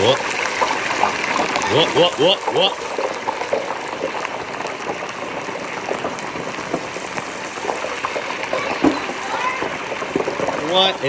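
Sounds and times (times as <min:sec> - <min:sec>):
oil sizzling and popping: 0:00.0 - 0:11.0.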